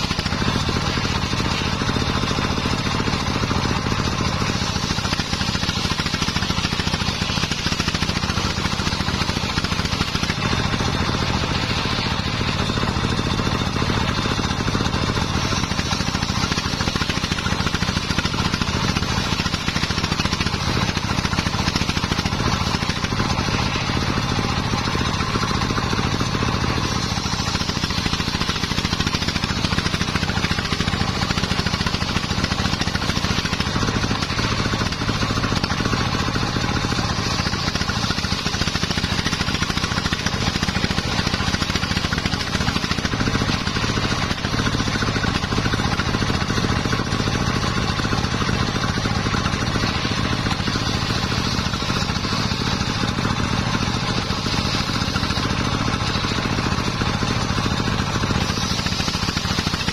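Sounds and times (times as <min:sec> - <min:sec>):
circular saw cutting wood: 0:00.0 - 0:59.9
engine running: 0:00.0 - 0:59.9.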